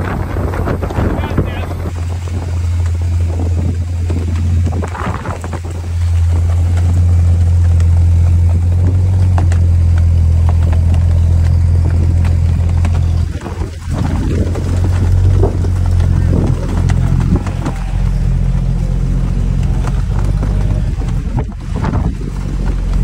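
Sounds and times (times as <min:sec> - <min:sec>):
engine running under load: 0:00.0 - 0:23.0.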